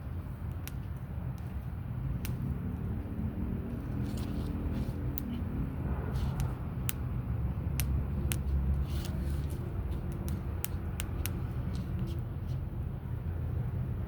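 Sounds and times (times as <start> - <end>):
low fire rumble: 0.0 - 14.0.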